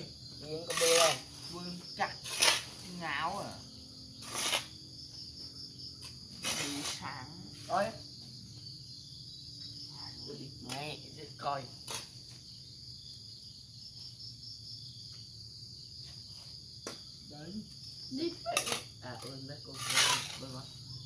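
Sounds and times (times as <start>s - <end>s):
high insect chorus: 0.0s - 21.0s.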